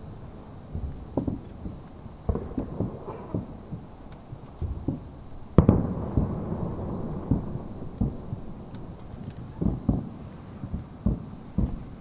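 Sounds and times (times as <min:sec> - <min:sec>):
fireworks booming: 0:00.0 - 0:12.0
rolling rumble: 0:00.0 - 0:12.0.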